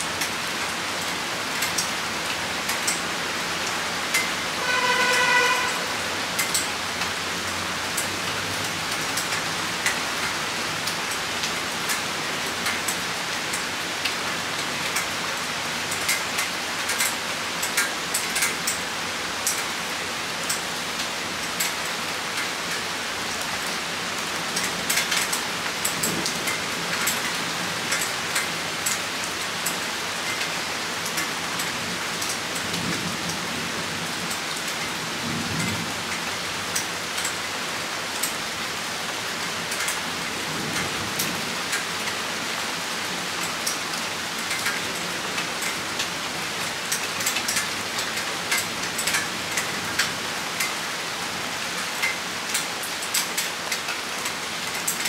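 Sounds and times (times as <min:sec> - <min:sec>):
rain hissing: 0:00.0 - 0:55.0
raindrops tapping: 0:00.1 - 0:50.8, 0:51.6 - 0:55.0.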